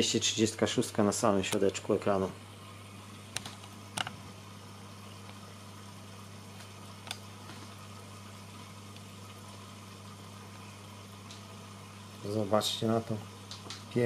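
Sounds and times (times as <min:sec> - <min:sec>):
aquarium pump hum: 0:00.0 - 0:14.0.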